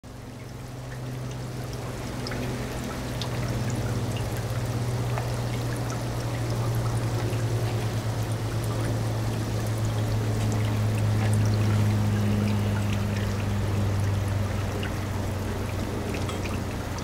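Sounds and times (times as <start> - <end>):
water churning and bubbling: 0.0 - 17.0
steady low hum: 0.1 - 17.0.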